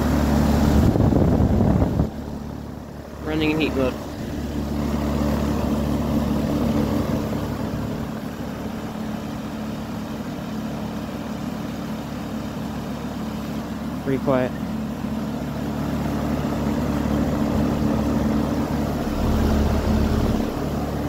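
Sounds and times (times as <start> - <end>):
heat pump low hum: 0.0 - 21.0.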